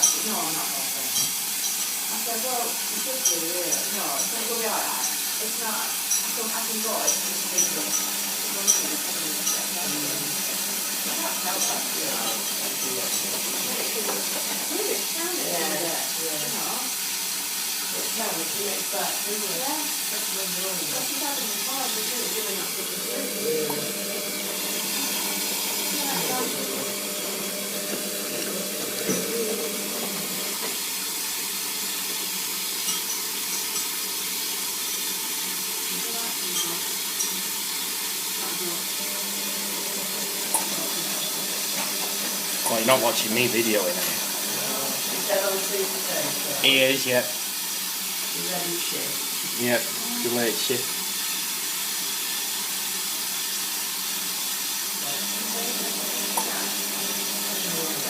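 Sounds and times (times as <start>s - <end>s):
water running into washing machine: 0.0s - 58.0s.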